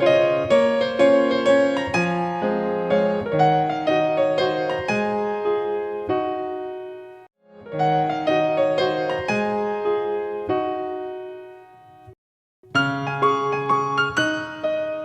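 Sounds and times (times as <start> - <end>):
piano melody over chords: 0.0 - 15.0.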